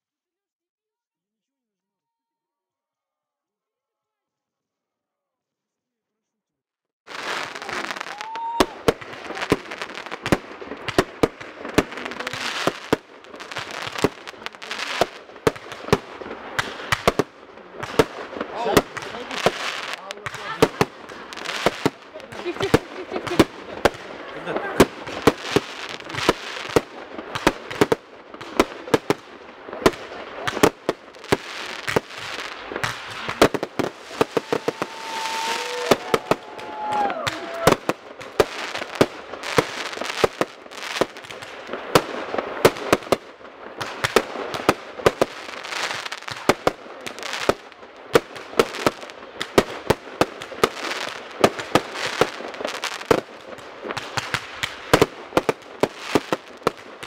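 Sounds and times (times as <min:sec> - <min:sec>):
firework shells bursting with bangs: 0:07.1 - 0:57.0
fireworks crackling: 0:07.1 - 0:57.0.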